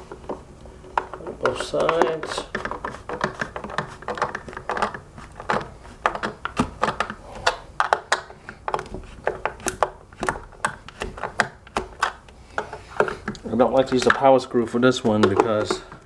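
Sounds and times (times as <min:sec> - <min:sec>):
plastic shell clicking and knocking: 0:00.1 - 0:14.3, 0:14.9 - 0:16.0.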